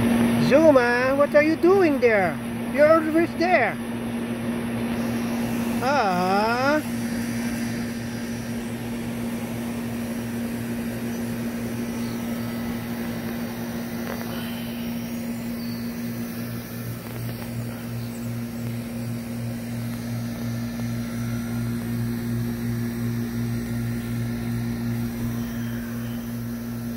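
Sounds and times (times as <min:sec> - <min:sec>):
low machine hum: 0:00.0 - 0:26.9.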